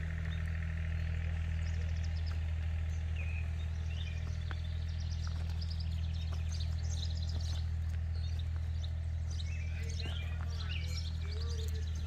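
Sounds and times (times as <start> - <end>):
birds chirping: 0.0 - 12.0
engine idling: 0.0 - 12.0.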